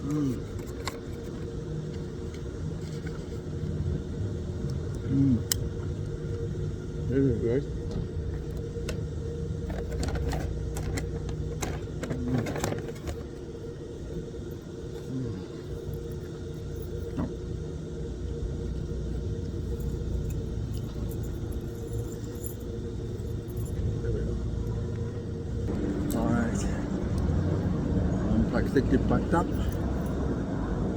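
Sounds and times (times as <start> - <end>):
constant hum: 0.0 - 30.9
low outdoor rumble: 0.0 - 30.9.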